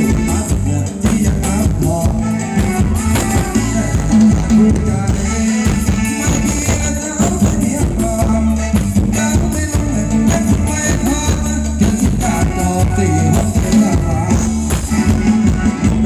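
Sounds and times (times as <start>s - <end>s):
drum-kit beat: 0.0s - 16.0s
live band dance music: 0.0s - 16.0s.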